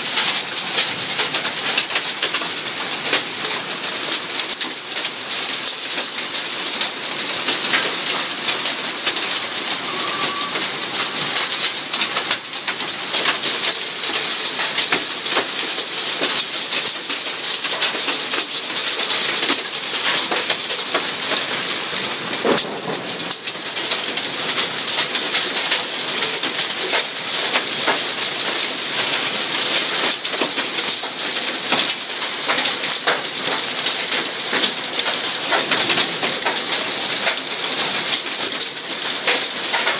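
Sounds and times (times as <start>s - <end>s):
hail and rain pelting: 0.0s - 39.9s.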